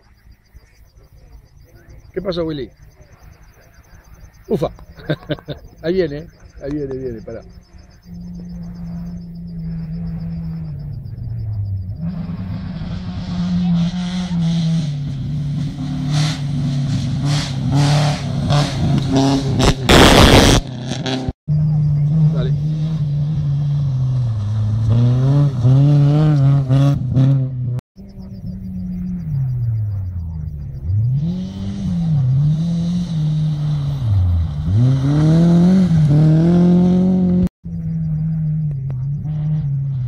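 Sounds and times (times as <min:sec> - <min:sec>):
rally car engine revving: 0:01.6 - 0:40.0.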